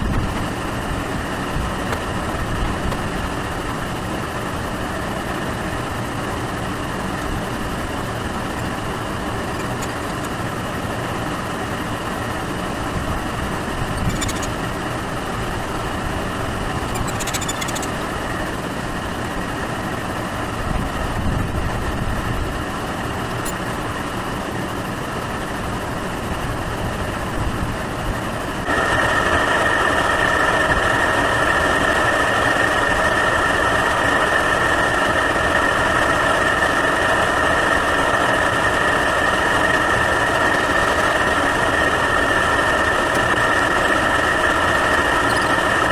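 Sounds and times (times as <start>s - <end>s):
air conditioner unit humming: 0.0s - 45.9s
loud steady whir: 0.0s - 45.9s.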